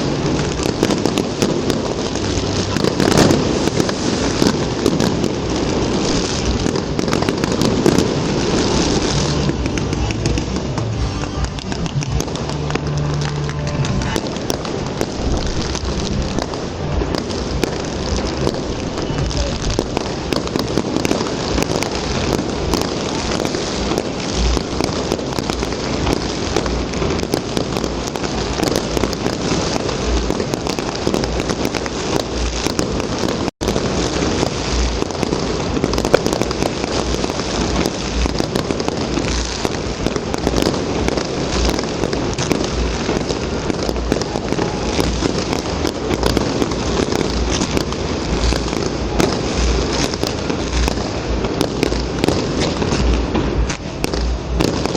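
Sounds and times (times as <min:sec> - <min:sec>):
fireworks crackling: 0:00.0 - 0:54.9.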